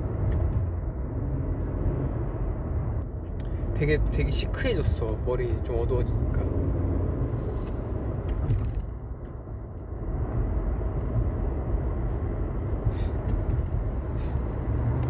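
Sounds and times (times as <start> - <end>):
car rumble from inside cabin: 0.0 - 15.0.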